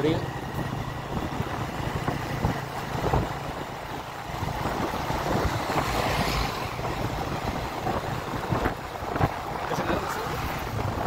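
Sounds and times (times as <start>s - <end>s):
motorcycle engine and road rumble: 0.0s - 11.0s
wind buffeting microphone: 0.3s - 11.0s.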